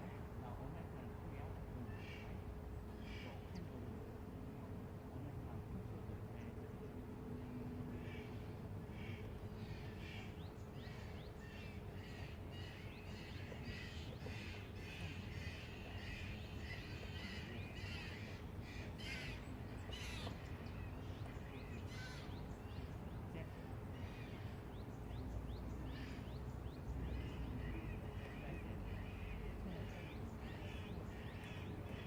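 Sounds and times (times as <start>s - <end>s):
city rumble and hum: 0.0s - 32.0s.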